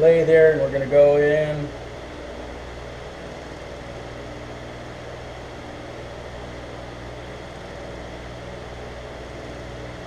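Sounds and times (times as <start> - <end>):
lathe motor humming: 0.0 - 10.0.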